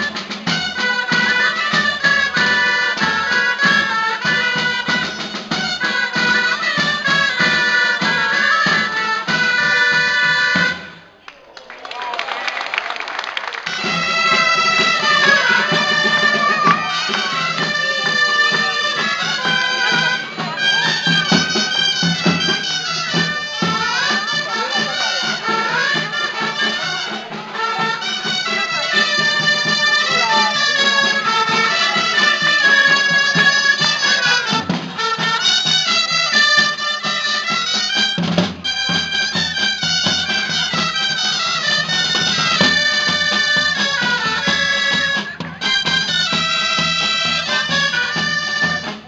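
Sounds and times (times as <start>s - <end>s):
side drums beating: 0.0s - 11.1s, 13.6s - 49.0s
shawms playing folk tune: 0.0s - 11.2s, 13.6s - 49.0s.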